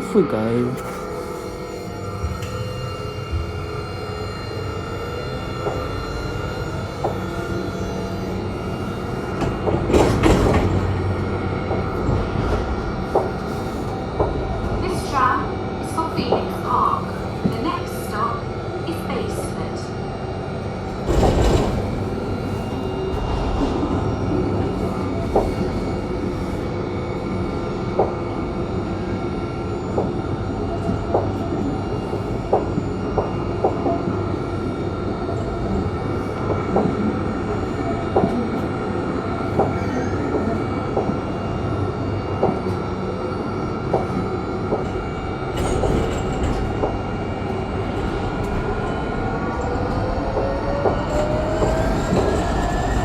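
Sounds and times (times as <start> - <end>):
tram rumbling along track: 0.0 - 53.0.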